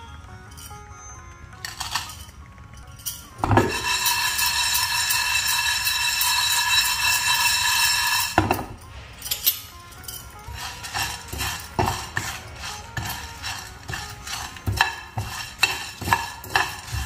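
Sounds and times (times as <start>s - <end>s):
gas burner hissing: 1.5s - 17.0s.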